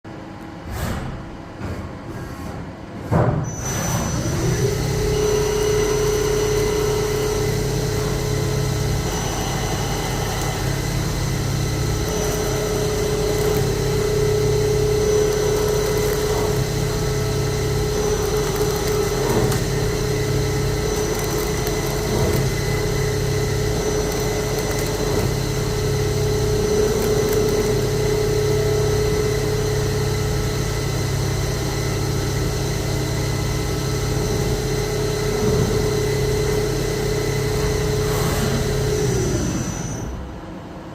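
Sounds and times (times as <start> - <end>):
lathe spindle whining: 3.7 - 40.2.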